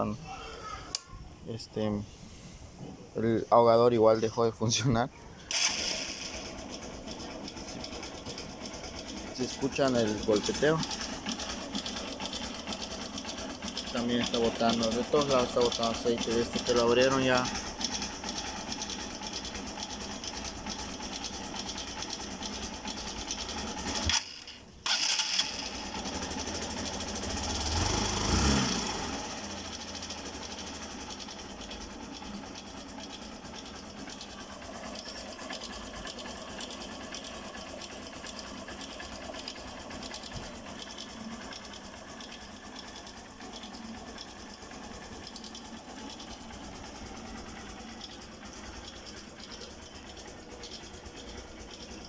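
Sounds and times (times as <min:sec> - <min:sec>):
motorcycle engine knocking: 0:06.2 - 0:24.1, 0:25.7 - 0:28.2, 0:28.8 - 0:52.0.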